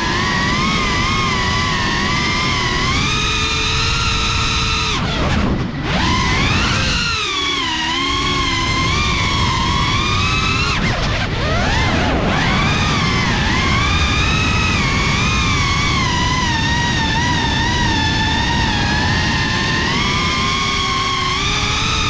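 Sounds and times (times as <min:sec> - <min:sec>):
drone motors whining: 0:00.0 - 0:22.0
wind rush: 0:00.0 - 0:22.0.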